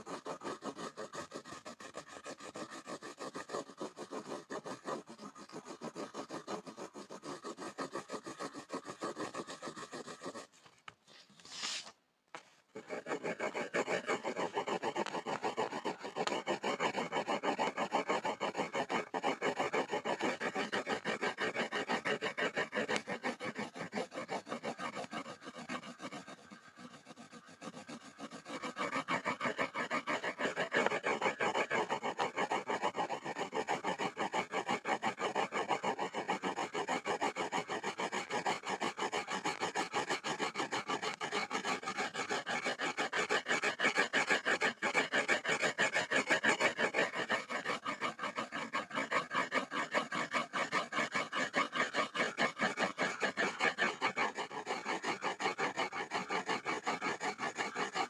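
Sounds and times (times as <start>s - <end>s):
pencil scribbling on a board: 0.0s - 58.0s.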